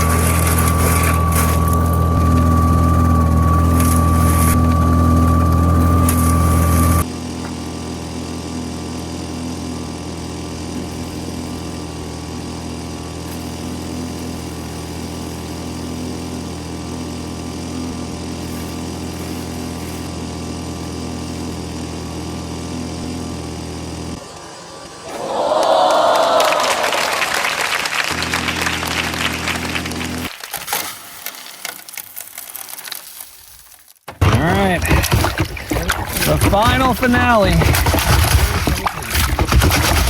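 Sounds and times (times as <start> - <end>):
small gas engine running: 0.0 - 32.7, 34.1 - 40.0.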